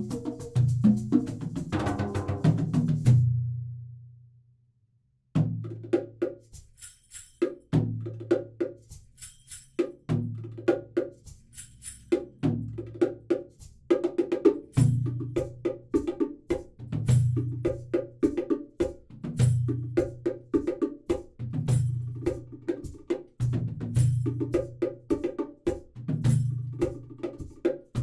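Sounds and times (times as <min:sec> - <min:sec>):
instrumental music with percussion: 0:00.0 - 0:04.1, 0:05.3 - 0:28.0.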